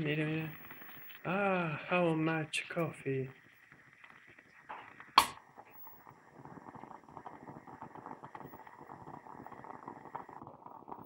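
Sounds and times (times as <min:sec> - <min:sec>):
moka pot gurgling and sputtering: 0:00.0 - 0:11.0.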